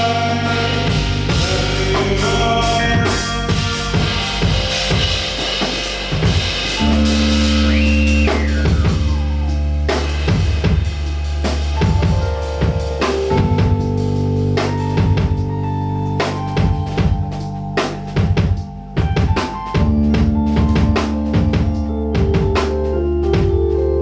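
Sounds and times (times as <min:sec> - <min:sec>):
bass line: 0:00.0 - 0:24.0
drum kit: 0:00.0 - 0:24.0
sustained chords: 0:00.0 - 0:24.0.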